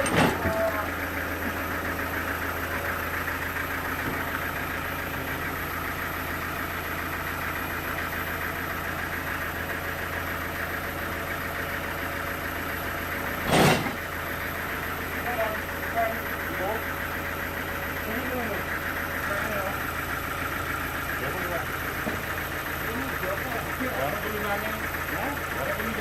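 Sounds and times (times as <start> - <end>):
engine idling with chugging: 0.0 - 26.0.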